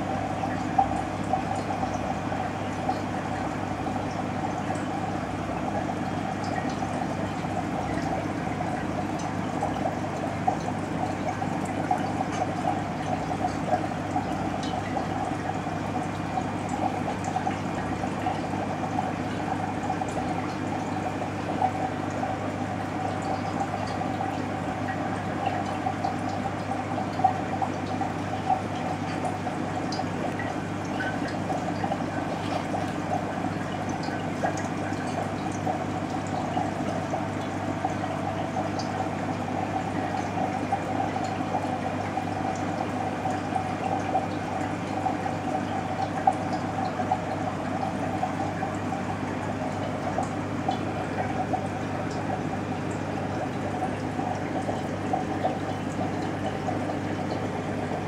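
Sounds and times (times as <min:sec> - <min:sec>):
aquarium water bubbling: 0:00.0 - 0:58.0.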